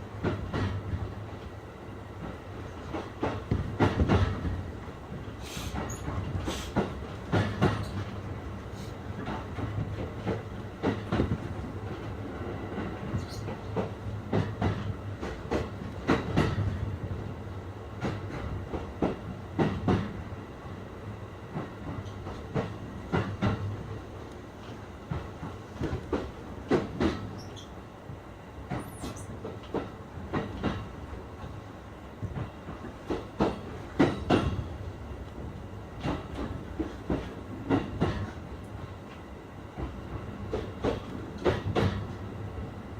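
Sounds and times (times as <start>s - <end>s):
train rumble: 0.0s - 42.9s.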